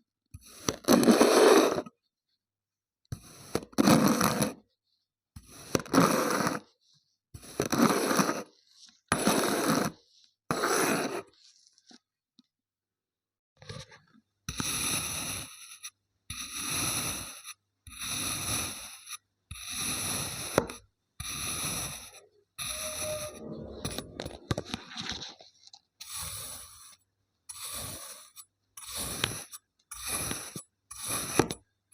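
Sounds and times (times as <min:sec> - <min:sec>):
knife scraping kinetic sand: 0:00.3 - 0:02.1, 0:03.1 - 0:04.7, 0:05.3 - 0:12.1, 0:13.8 - 0:31.9.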